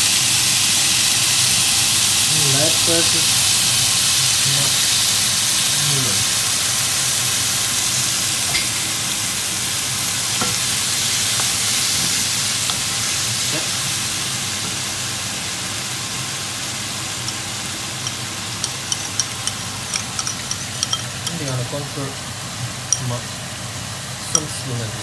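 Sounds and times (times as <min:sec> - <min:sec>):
food sizzling in a wok: 0:00.0 - 0:25.0.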